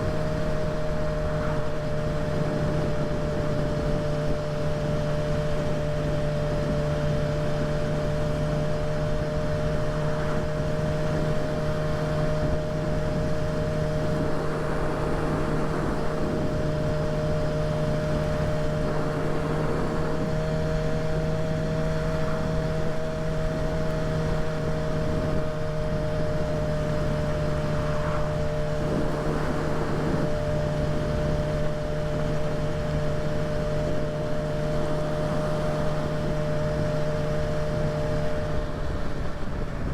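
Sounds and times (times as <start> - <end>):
motorcycle engine droning: 0.0 - 39.9
wind rush: 0.0 - 39.9.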